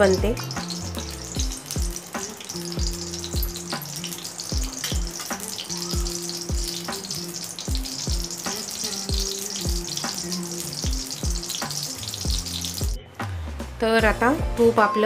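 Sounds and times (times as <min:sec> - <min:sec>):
ghee frying sizzle: 0:00.0 - 0:13.5
background music with beat: 0:00.0 - 0:15.0.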